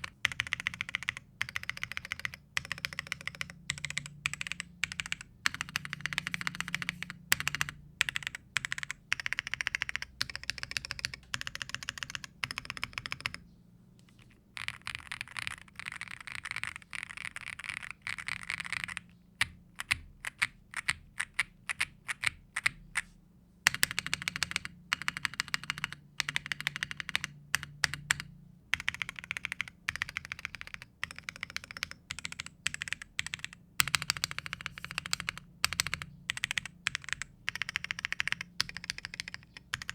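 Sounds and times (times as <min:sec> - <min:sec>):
mechanical keyboard typing: 0:00.0 - 0:13.4, 0:14.2 - 0:23.0, 0:23.7 - 0:39.9.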